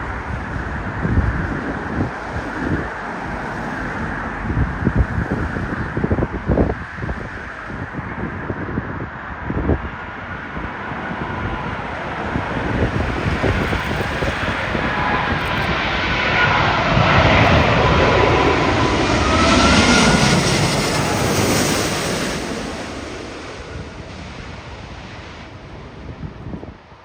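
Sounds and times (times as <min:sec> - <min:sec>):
jet airliner passing: 0:00.0 - 0:27.0
wind buffeting microphone: 0:00.0 - 0:27.0.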